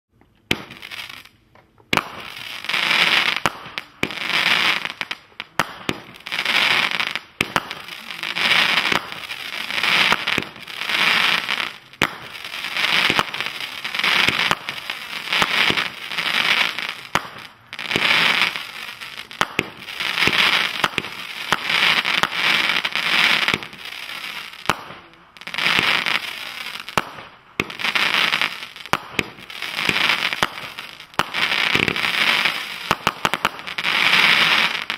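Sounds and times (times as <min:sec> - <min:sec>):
fireworks crackling: 0:00.2 - 0:34.9
fireworks exploding: 0:00.4 - 0:34.9.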